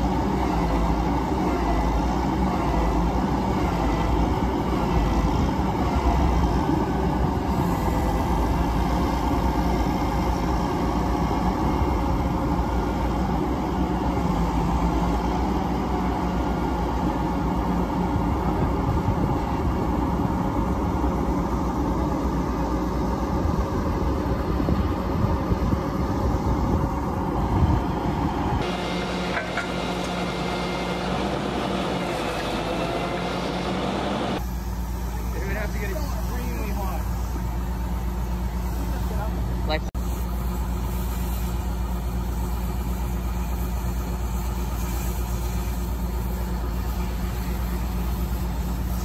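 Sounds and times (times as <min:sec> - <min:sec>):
diesel truck engines running: 0:00.0 - 0:49.0.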